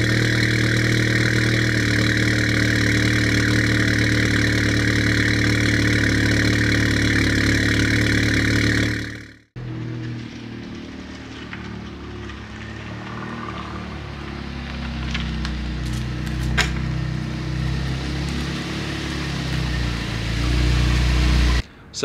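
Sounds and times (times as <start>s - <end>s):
car engine running at low speed: 0.0s - 21.6s.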